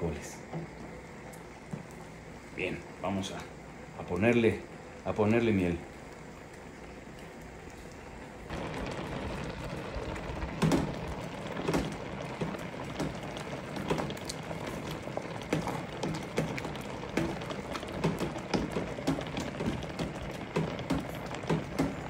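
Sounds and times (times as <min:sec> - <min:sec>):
fruit bubbling in a pot: 0:00.0 - 0:22.0.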